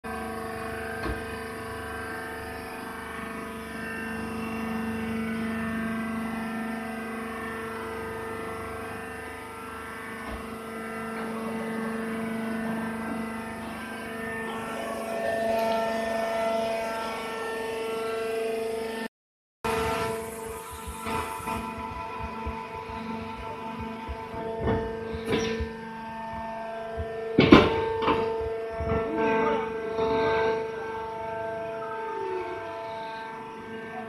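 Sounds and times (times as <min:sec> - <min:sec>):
higher machine tone: 0:00.1 - 0:19.1, 0:19.7 - 0:34.0
hydraulic pump motor hum: 0:00.1 - 0:19.1, 0:19.7 - 0:34.0.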